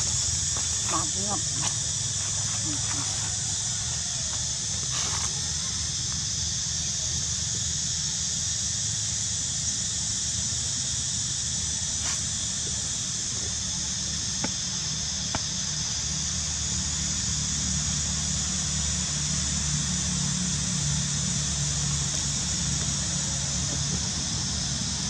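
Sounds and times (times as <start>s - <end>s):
steady high hiss: 0.0s - 25.0s.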